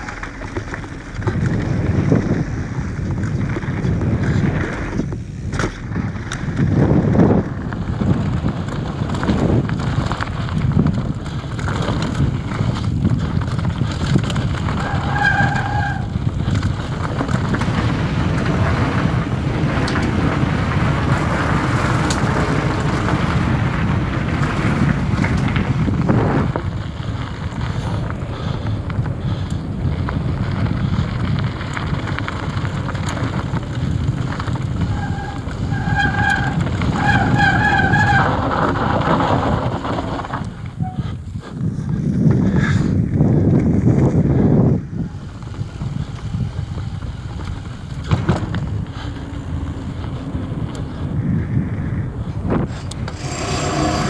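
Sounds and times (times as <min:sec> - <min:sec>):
bike knocking and rattling: 0:00.0 - 0:54.0
tyre rumble: 0:00.0 - 0:54.0
wind rushing on microphone: 0:00.0 - 0:54.0.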